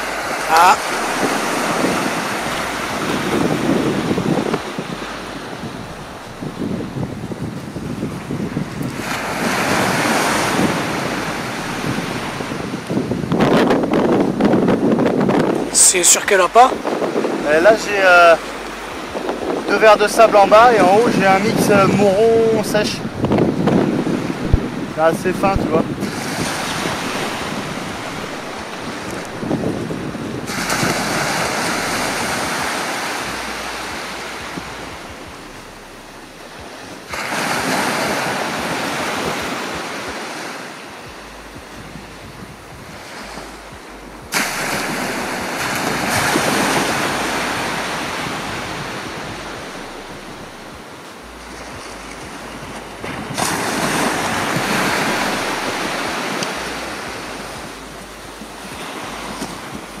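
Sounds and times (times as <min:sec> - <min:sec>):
waves breaking on sandy beach: 0:00.0 - 1:00.0.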